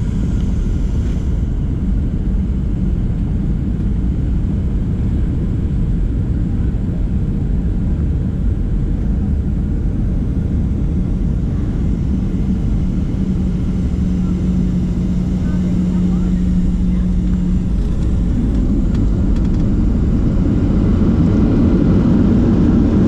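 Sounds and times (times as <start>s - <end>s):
airliner cabin rumble: 0.0s - 23.0s
low steady hum: 0.0s - 23.0s.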